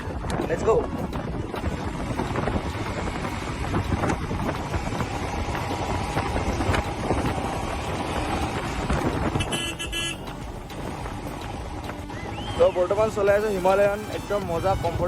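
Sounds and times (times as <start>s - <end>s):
wind buffeting microphone: 0.0s - 12.5s
motorcycle engine running: 0.0s - 15.0s.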